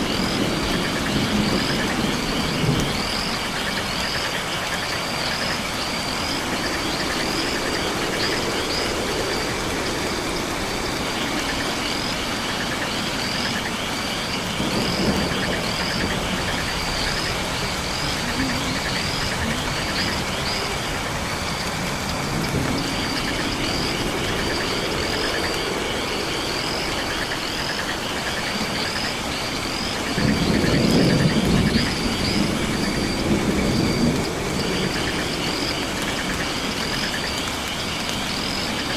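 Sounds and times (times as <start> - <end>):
frogs calling: 0.0 - 38.9
high insect chirp: 0.0 - 38.9
hiss of rain: 0.0 - 38.9.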